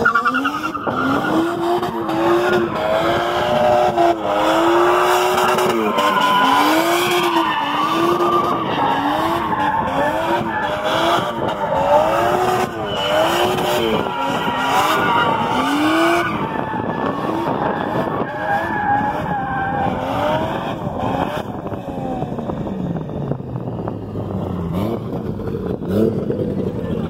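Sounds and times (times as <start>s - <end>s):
car engine revving: 0.0s - 27.0s
tyres skidding: 0.0s - 27.0s.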